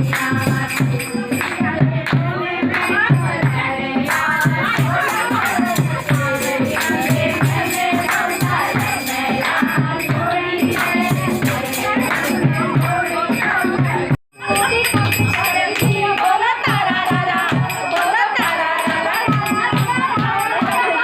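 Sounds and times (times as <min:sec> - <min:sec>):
song with vocals over a beat: 0:00.0 - 0:21.0.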